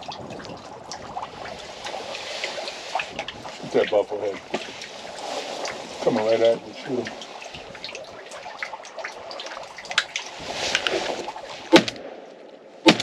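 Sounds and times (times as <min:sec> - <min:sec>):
water lapping and trickling: 0:00.0 - 0:13.0.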